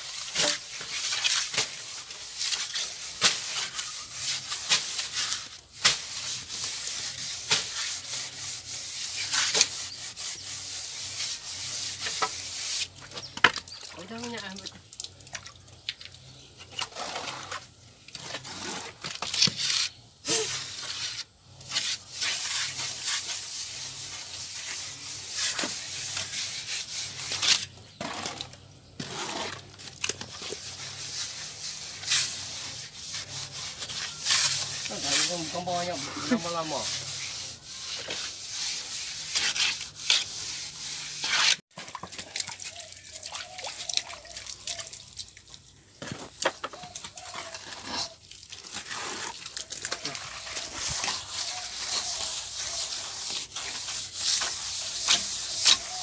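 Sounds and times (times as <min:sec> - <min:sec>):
plastering tool scraping wall: 0:00.0 - 0:14.4, 0:16.6 - 0:42.2, 0:46.0 - 0:56.0.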